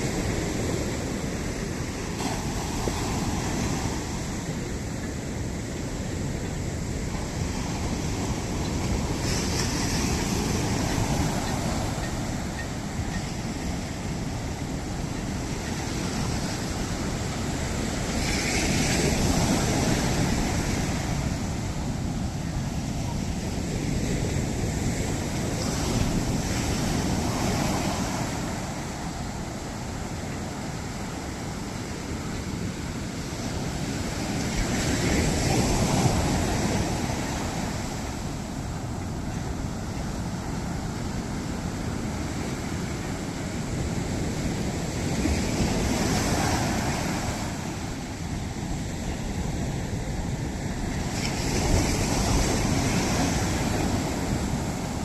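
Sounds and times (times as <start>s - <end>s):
sea waves breaking: 0.0s - 55.0s
wind on microphone: 0.0s - 55.0s.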